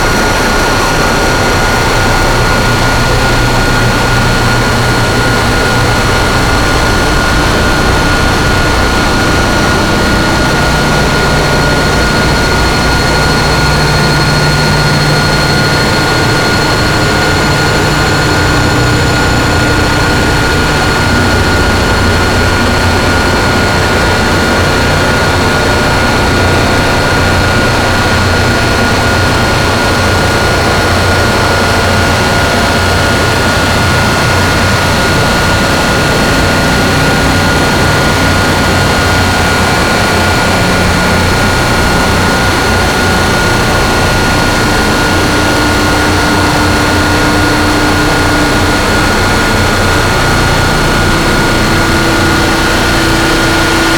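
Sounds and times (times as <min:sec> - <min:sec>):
distorted noise wall: 0:00.0 - 0:53.9.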